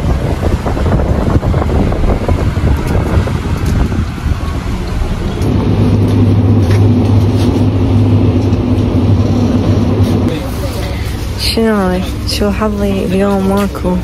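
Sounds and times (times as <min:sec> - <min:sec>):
car road and engine rumble: 0:00.0 - 0:14.0
steady low hum: 0:00.0 - 0:14.0.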